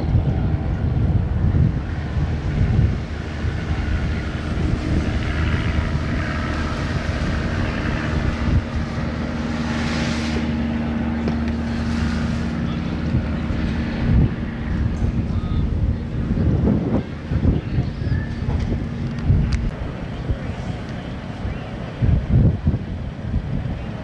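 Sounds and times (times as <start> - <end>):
aircraft engine and propeller droning: 0.0 - 24.0
wind buffeting microphone: 0.0 - 24.0.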